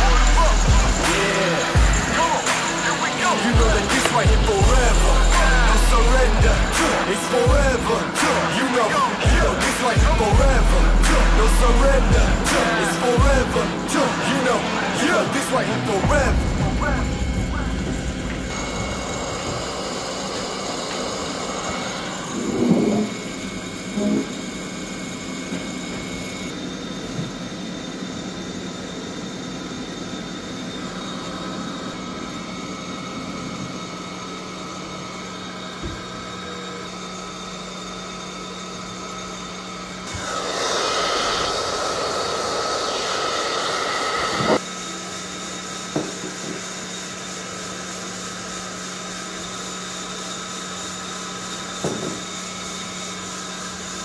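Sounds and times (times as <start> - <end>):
hot-air blower humming: 0.0 - 54.0.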